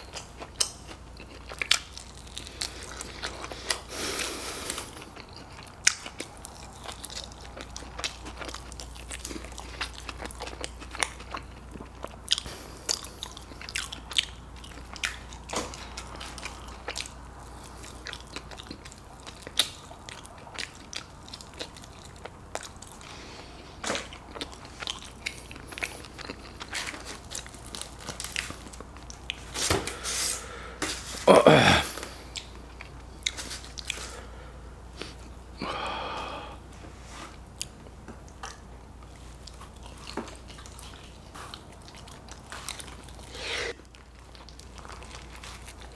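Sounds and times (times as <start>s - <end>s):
close chewing and biting: 0.0s - 31.2s, 31.8s - 34.3s, 37.4s - 45.9s.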